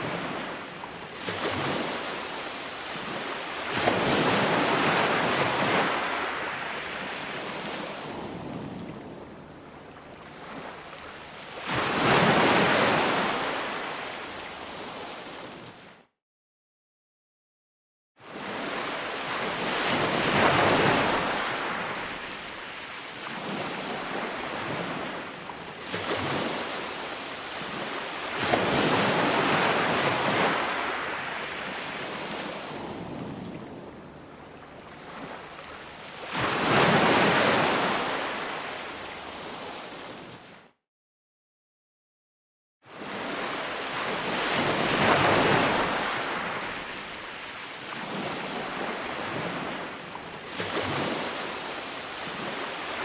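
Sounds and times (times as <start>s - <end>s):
ocean waves breaking: 0.0s - 15.9s, 18.3s - 40.6s, 42.9s - 53.0s.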